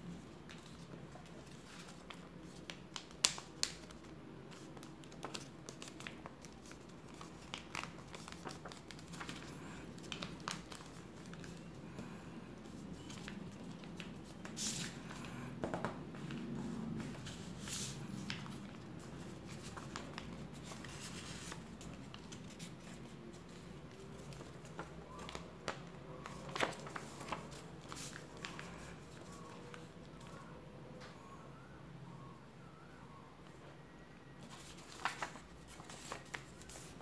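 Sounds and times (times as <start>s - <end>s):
paper folding and crinkling: 0.4s - 30.5s, 34.4s - 37.0s.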